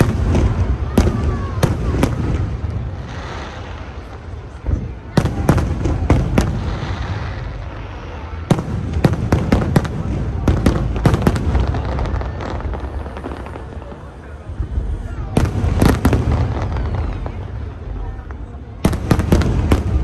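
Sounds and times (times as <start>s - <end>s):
fireworks bursting with bangs: 0.0s - 20.0s.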